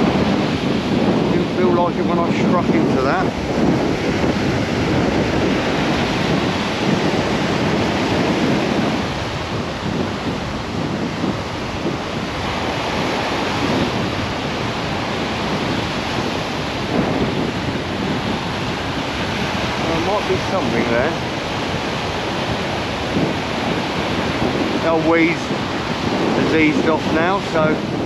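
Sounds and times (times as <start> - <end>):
waves breaking on sand beach: 0.0 - 28.0
wind buffeting microphone: 0.0 - 28.0.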